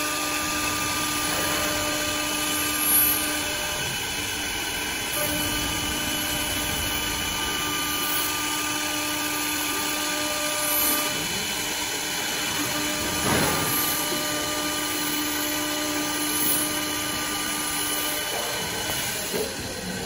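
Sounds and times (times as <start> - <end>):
cutter milling wood: 0.0 - 20.0
lathe motor whine: 0.0 - 20.0.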